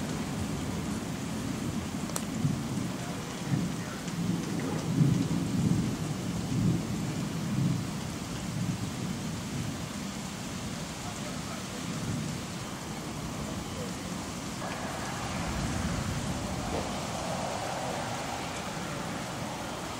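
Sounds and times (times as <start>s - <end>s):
distant thunder rolling: 0.0s - 10.1s, 10.9s - 19.9s
rain hissing: 0.0s - 19.9s.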